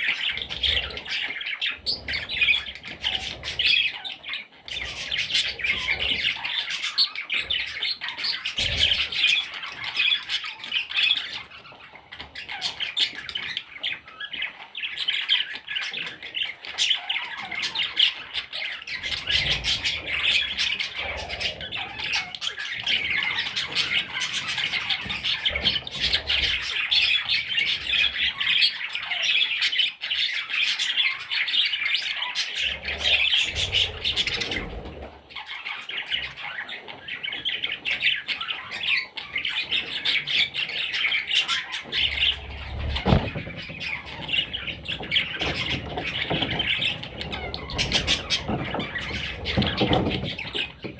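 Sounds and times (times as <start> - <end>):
budgerigars squawking and chirping: 0.0 - 50.9.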